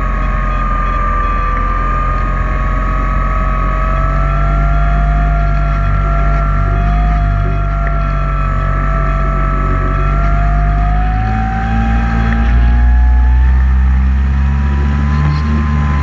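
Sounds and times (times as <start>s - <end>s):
drone motor whine: 0.0s - 16.0s
loud low hum: 0.0s - 16.0s.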